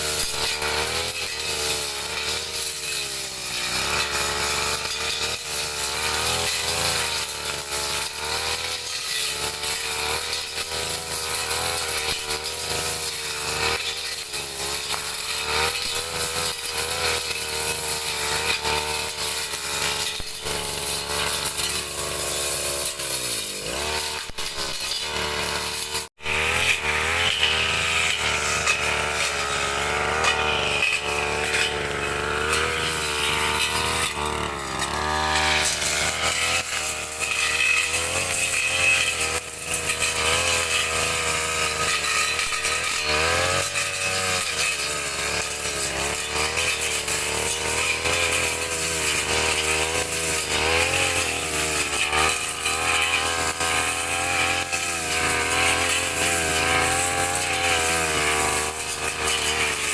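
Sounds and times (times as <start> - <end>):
brush cutter engine at high revs: 0.0 - 59.9.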